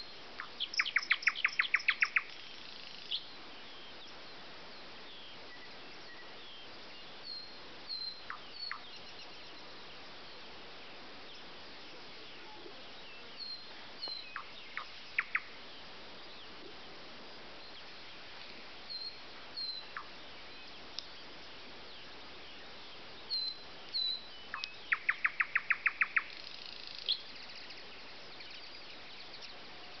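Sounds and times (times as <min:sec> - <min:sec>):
songbirds singing: 0:00.0 - 0:30.0.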